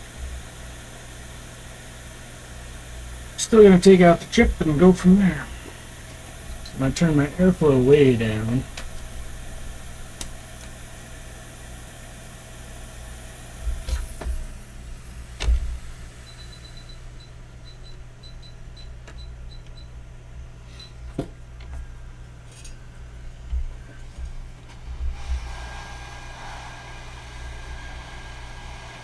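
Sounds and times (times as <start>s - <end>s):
hot air station humming and hissing: 0.0s - 29.0s.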